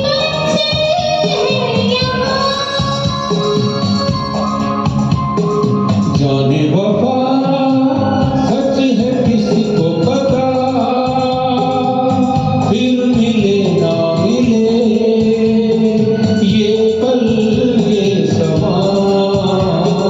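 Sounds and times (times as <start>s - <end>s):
instrumental backing track with keyboard: 0.0s - 20.0s.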